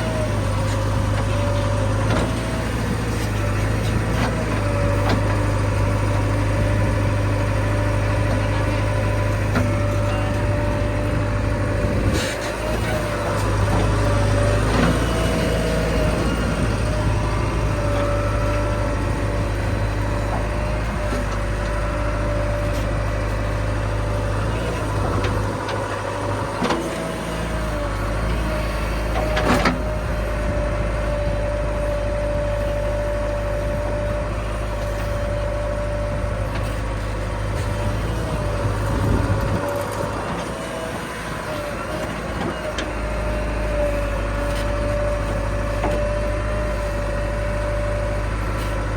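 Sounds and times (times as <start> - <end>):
diesel engine under load: 0.0 - 48.9.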